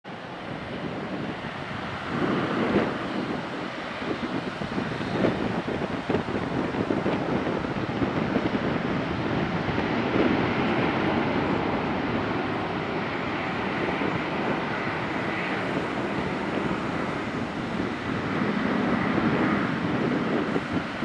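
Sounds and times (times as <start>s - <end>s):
jet engines rushing: 0.1s - 21.0s
wind buffeting microphone: 0.1s - 21.0s.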